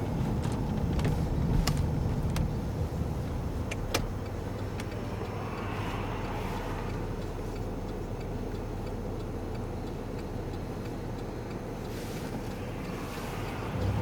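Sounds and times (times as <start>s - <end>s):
car engine rumbling: 0.0s - 14.0s
faint regular ticking: 0.8s - 13.7s.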